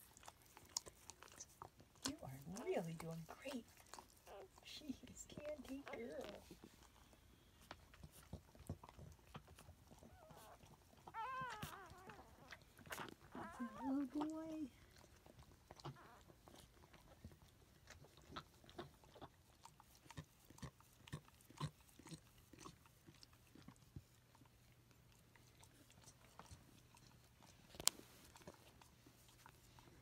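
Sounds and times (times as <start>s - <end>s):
dog licking puppy: 0.0s - 30.0s.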